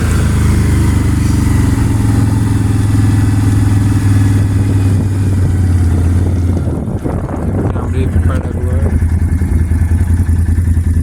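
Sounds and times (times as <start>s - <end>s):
small engine running at low revs: 0.0s - 11.0s.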